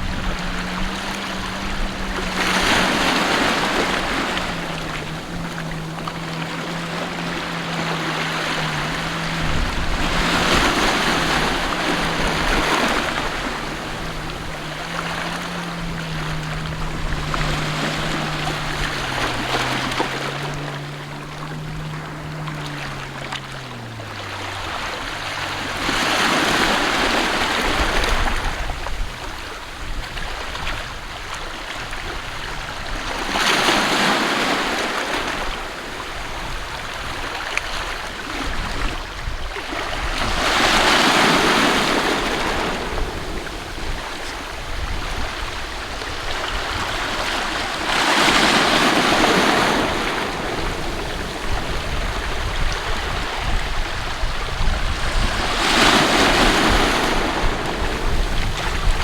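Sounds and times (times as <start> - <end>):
low engine hum: 0.0 - 59.0
sea waves washing in: 0.0 - 59.0.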